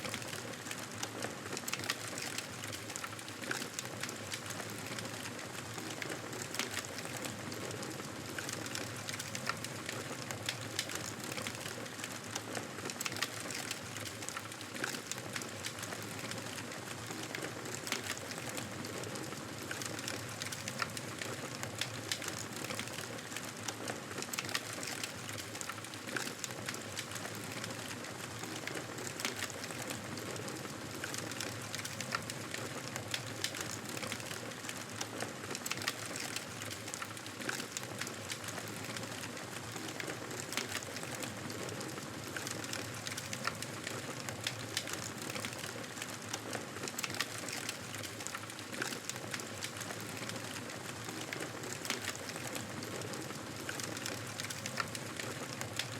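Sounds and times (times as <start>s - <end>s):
campfire crackling: 10.4s - 55.9s.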